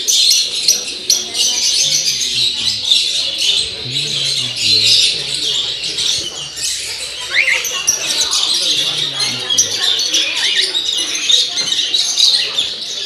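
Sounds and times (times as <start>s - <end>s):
birds chirping and twittering: 0.0s - 13.0s
murmur of voices: 0.0s - 13.0s.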